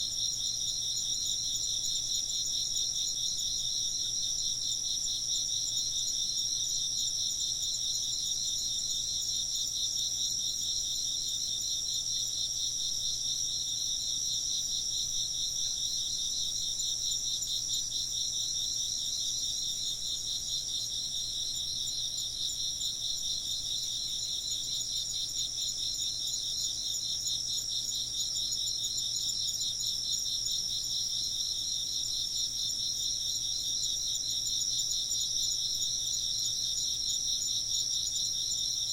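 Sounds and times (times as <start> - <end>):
insect high-pitched ringing trill: 0.0 - 38.9.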